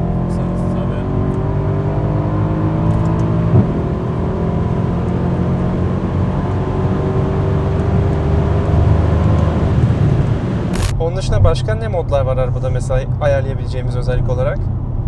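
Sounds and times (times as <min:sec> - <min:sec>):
car engine cruising: 0:00.0 - 0:15.0
road noise: 0:00.0 - 0:15.0.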